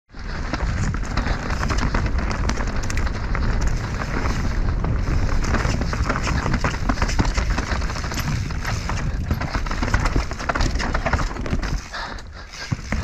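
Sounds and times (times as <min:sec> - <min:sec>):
bike clicks and rattles: 0:00.1 - 0:13.0
wind buffeting microphone: 0:00.1 - 0:13.0.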